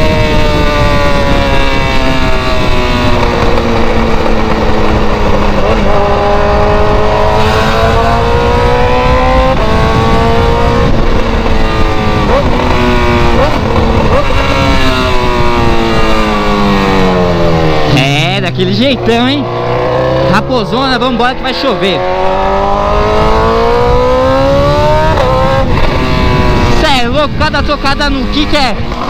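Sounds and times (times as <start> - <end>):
car engine accelerating through gears: 0.0 - 27.0.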